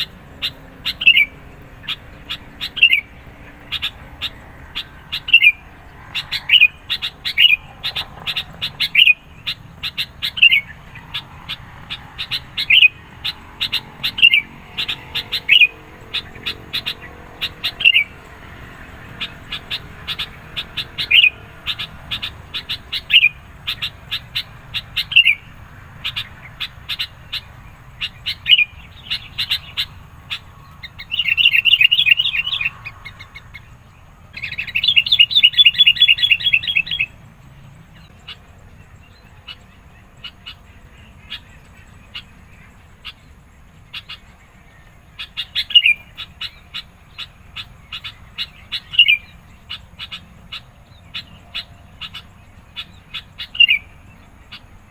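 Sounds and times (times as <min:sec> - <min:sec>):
bird chattering trills: 0:00.0 - 0:54.9
bird chirping: 0:00.0 - 0:54.9.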